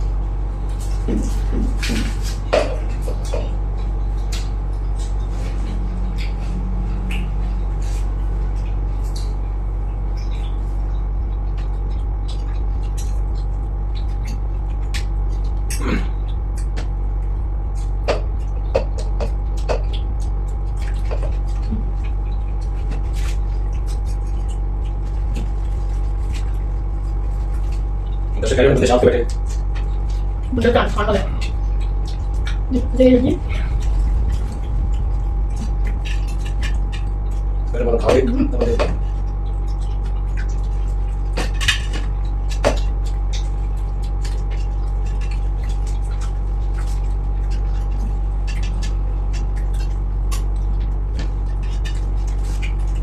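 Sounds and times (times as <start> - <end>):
electric fan hum: 0.0 - 53.0
wet eating smacks and clicks: 0.0 - 53.0.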